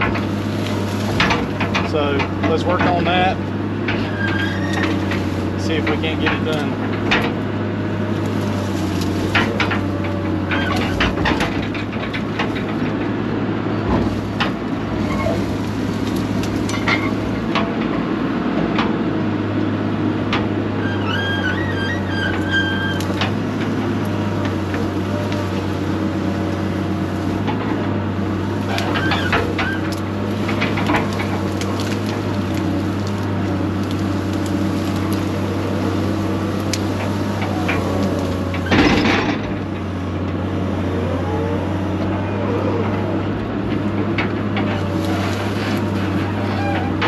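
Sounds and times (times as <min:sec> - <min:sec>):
brush cracking and snapping: 0:00.0 - 0:40.8, 0:42.8 - 0:47.0
heavy machine engine running: 0:00.0 - 0:47.0.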